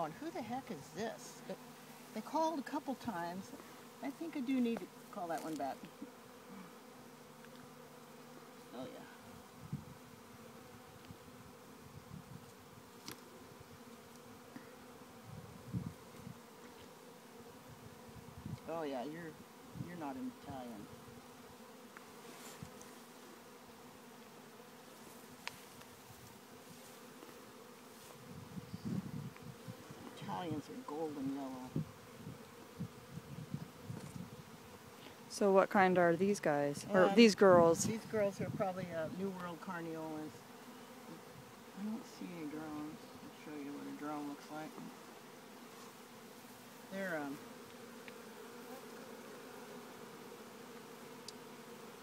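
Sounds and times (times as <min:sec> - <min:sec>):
bee swarm buzzing: 0:00.0 - 0:52.0.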